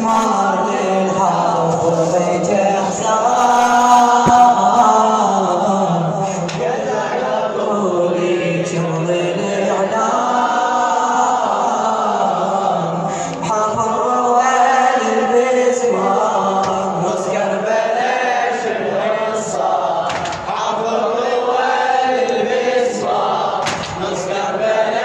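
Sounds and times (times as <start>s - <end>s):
male chorus chanting a lament: 0.0s - 25.0s.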